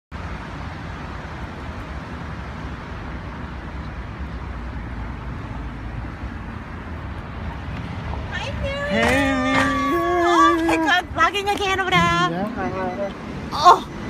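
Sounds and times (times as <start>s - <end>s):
traffic rumble: 0.1s - 14.0s.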